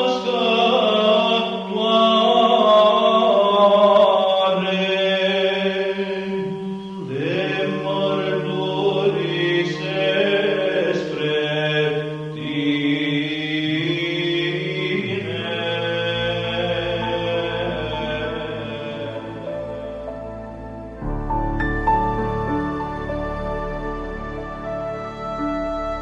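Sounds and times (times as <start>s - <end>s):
slow chanting voices: 0.0s - 21.0s.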